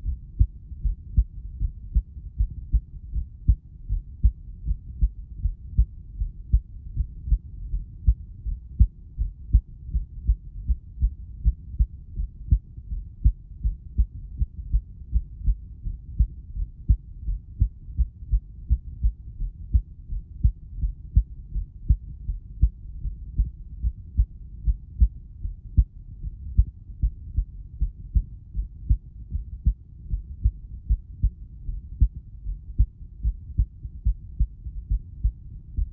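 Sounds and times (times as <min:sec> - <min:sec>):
heartbeat thumps: 0:00.0 - 0:35.9.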